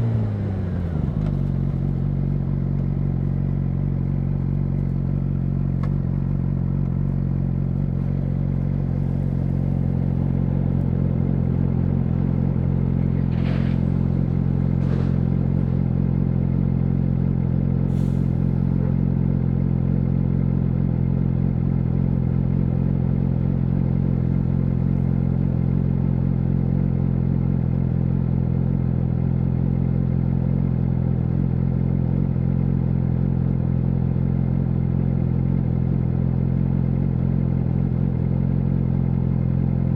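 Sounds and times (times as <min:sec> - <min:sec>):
motorcycle engine idling: 0:00.0 - 0:13.3, 0:18.5 - 0:39.9.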